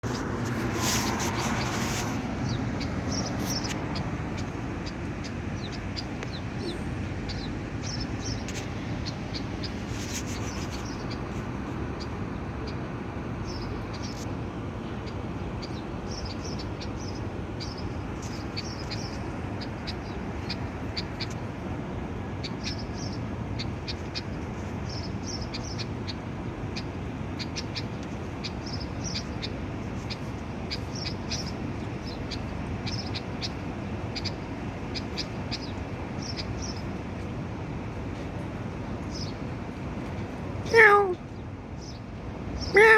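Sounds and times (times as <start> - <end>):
steady background noise: 0.0 - 42.9.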